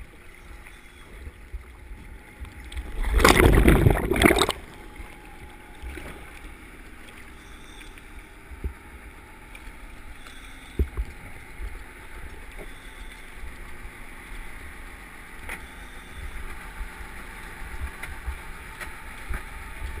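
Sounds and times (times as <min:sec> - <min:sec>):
muffled water hiss and rumble: 0:00.0 - 0:20.0.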